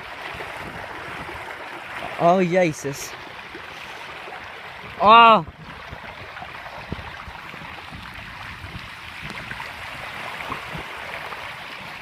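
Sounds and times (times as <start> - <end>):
floodwater rushing and splashing: 0.0 - 12.0.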